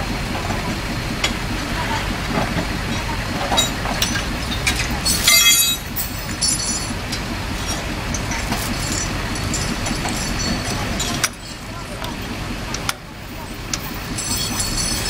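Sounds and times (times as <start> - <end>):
vehicles rumbling: 0.0 - 15.0.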